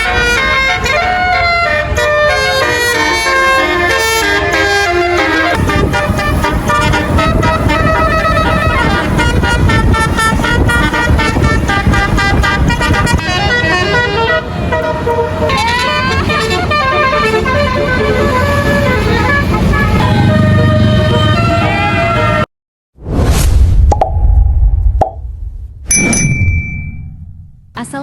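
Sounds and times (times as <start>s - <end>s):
bus engine rumbling: 0.0s - 22.5s, 26.0s - 28.0s
musical air horn playing a tune: 0.0s - 22.5s.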